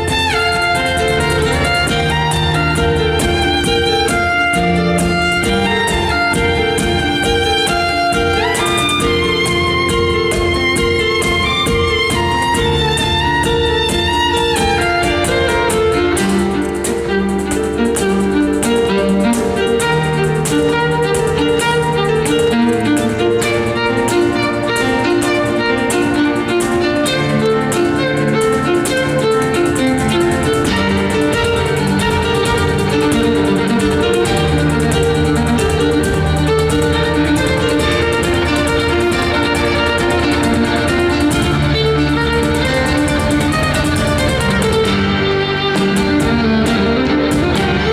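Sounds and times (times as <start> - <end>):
backing track with guitar and beat: 0.0 - 47.9
violin melody: 0.0 - 47.9.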